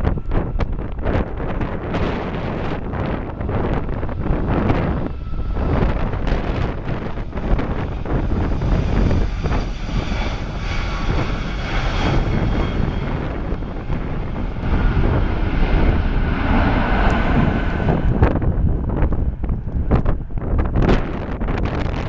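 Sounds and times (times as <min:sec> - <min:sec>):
jet engine rumble: 0:00.0 - 0:22.0
whining fan tones: 0:00.0 - 0:22.0.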